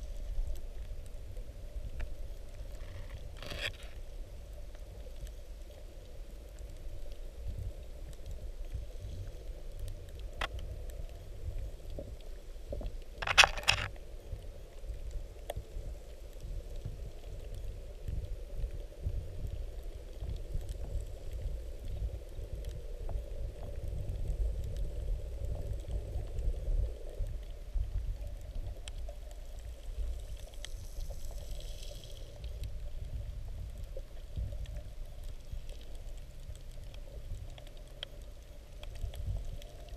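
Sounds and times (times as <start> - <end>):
low rumble of moving water: 0.0 - 39.9.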